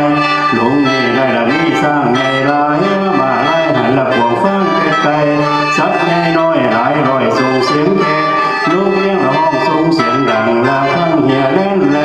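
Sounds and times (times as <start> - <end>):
man singing ornamented vocal: 0.0 - 12.0
mouth organ drone: 0.0 - 12.0.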